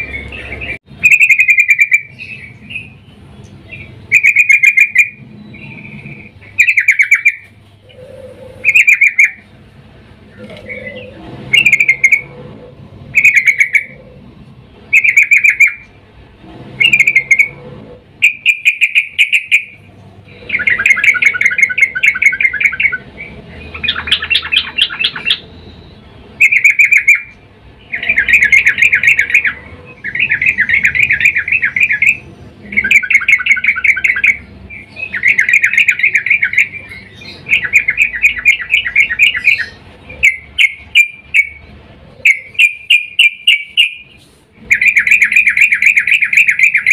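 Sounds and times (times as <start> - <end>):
bird rapid chattering calls: 0.0 - 9.5, 10.3 - 12.3, 13.1 - 14.2, 14.9 - 16.0, 16.8 - 17.6, 18.2 - 46.9.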